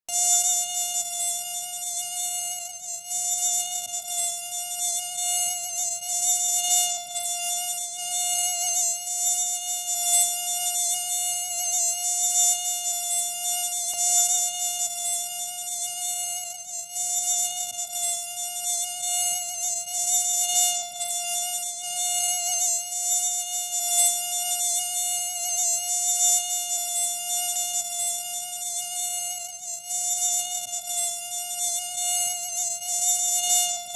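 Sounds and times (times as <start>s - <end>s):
mosquito whining: 0.1s - 33.9s.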